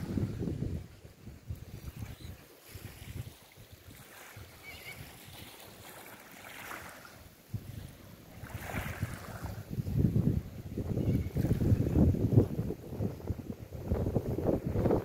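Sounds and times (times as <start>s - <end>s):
wind buffeting microphone: 0.0s - 5.6s, 7.5s - 15.0s.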